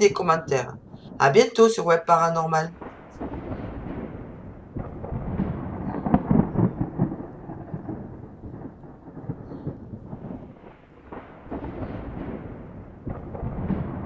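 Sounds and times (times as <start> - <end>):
rolling thunder: 0.0 - 14.0
rain: 0.7 - 14.0.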